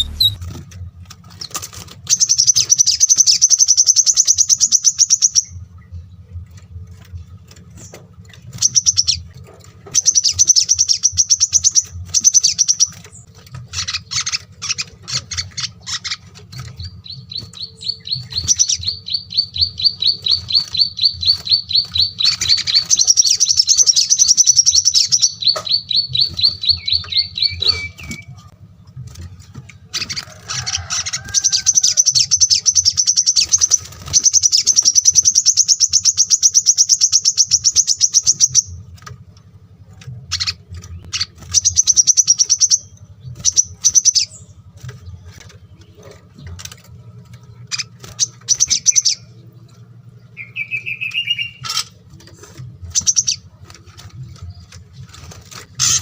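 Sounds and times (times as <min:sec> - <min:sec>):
faint low hum: 0:00.0 - 0:56.0
songbirds trilling: 0:00.0 - 0:56.0.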